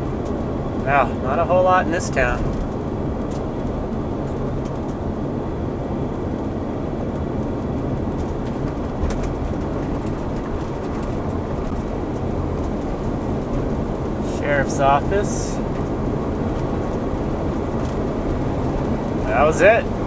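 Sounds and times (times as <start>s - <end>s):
road and engine noise in vehicle: 0.0s - 20.0s.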